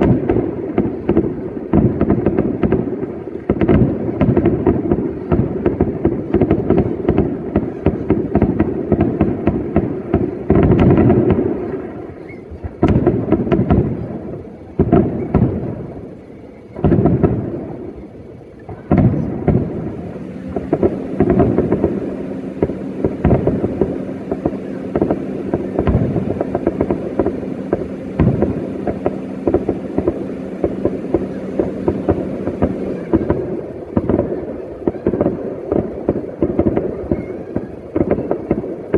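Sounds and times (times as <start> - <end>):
fireworks bangs and crackles: 0.0 - 38.9
low hum: 0.0 - 38.9.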